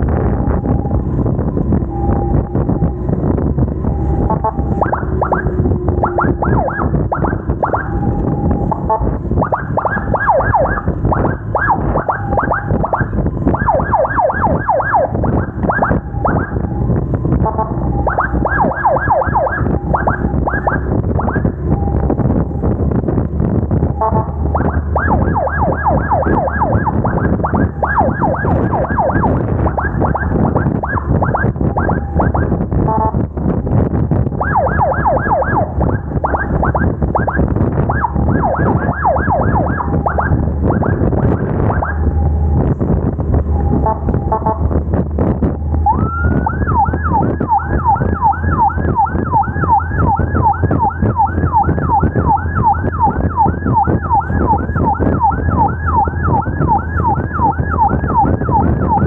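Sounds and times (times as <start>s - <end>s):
emergency siren sweeping: 0.0s - 59.0s
wind rumble: 0.0s - 59.0s.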